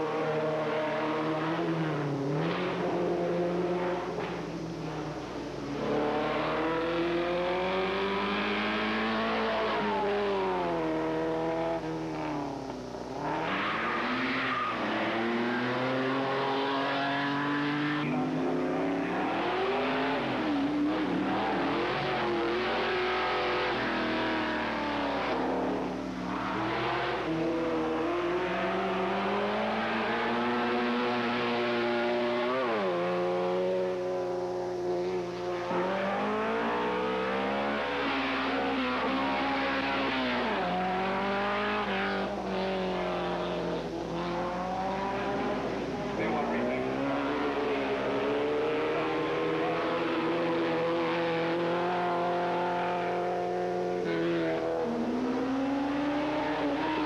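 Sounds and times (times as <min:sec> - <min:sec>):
race car engines accelerating: 0:00.0 - 0:57.0.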